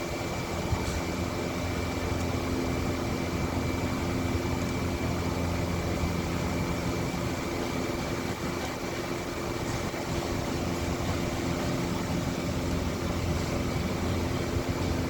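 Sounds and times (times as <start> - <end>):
machinery hum and hiss: 0.0 - 15.0.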